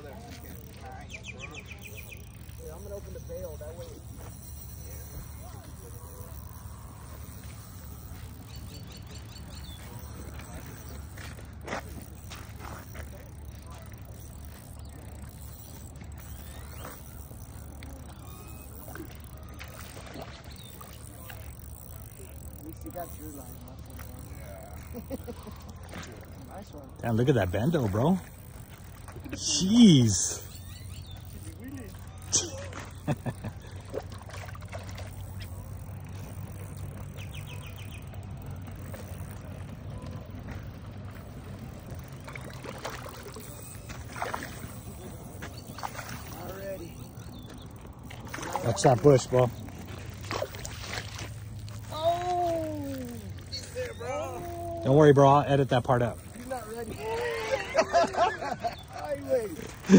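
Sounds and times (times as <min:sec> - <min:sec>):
fish splashing in water: 0:00.0 - 0:59.9.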